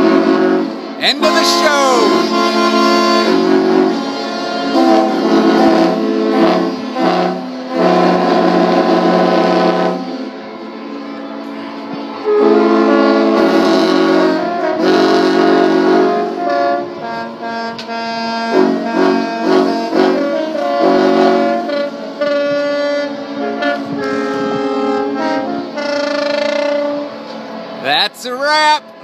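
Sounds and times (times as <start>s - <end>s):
yacht horns blowing together: 0.0s - 10.4s, 12.2s - 28.9s.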